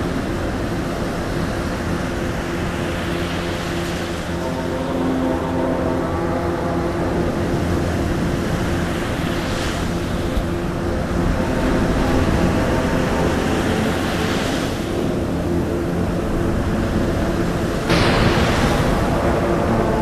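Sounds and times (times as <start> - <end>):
rushing wash like surf: 0.0 - 20.0.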